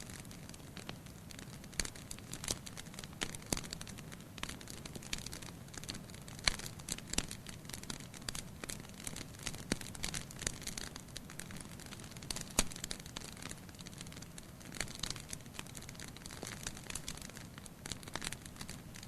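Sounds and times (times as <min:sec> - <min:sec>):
soft steady hiss: 0:00.0 - 0:19.0
wood fire crackling: 0:00.0 - 0:19.0.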